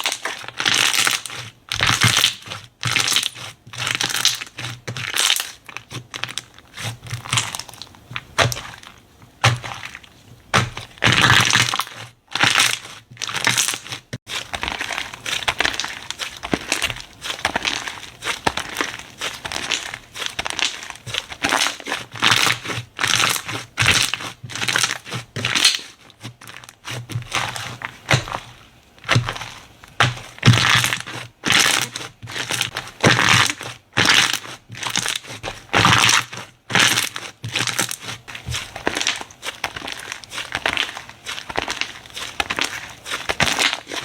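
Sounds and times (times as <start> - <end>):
slime squishing and crackling: 0.0 - 44.0.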